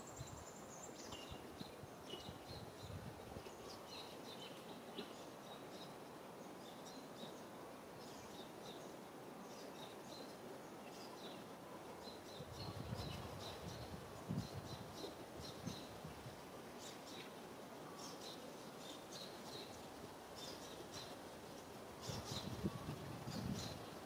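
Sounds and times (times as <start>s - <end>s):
faint outdoor hiss: 0.0s - 24.0s
small birds chirping: 0.0s - 24.0s.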